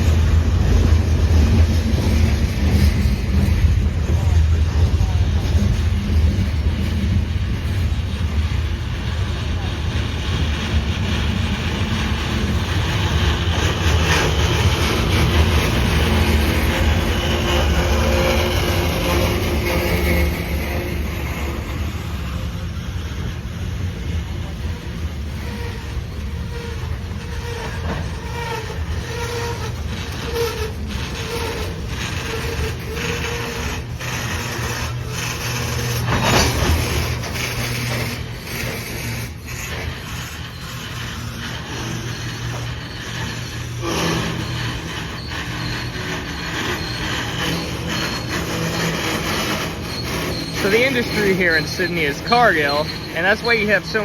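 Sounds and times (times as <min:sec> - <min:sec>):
freight cars rolling on rails: 0:00.0 - 0:54.0
wheel squeal: 0:00.0 - 0:54.0.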